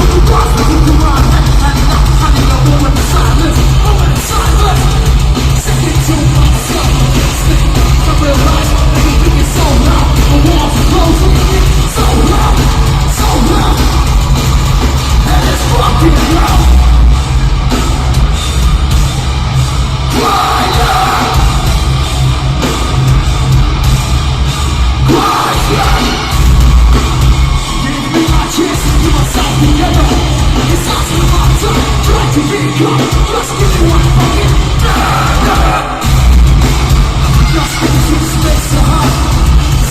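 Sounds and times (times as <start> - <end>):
singer yelling and singing: 0.0 - 18.4, 19.5 - 23.8, 24.7 - 39.9
metal band playing: 0.0 - 39.9.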